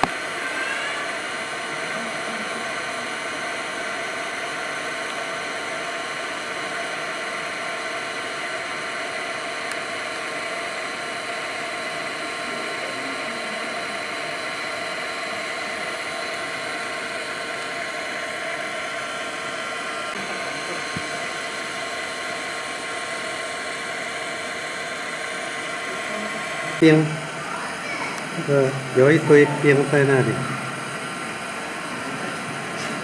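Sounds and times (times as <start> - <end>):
steady whirring hiss: 0.0 - 33.0.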